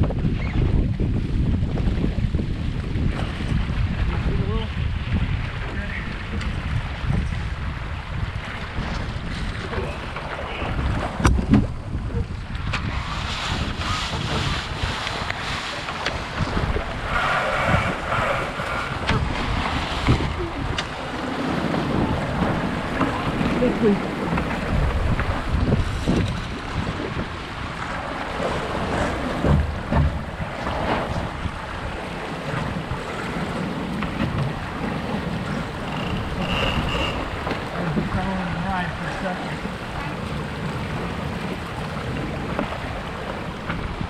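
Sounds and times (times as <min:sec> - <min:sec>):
water rushing along hull: 0:00.0 - 0:44.0
wind buffeting microphone: 0:00.0 - 0:44.0.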